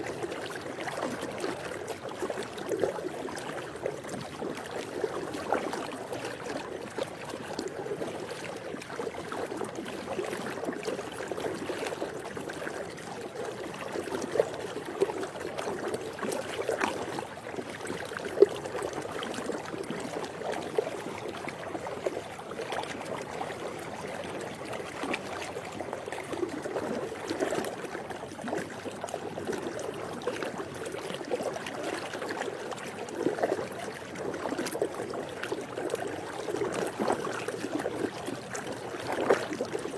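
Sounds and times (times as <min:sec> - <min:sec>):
pool water lapping and trickling: 0:00.0 - 0:39.9
water splashes and drips: 0:00.0 - 0:39.9.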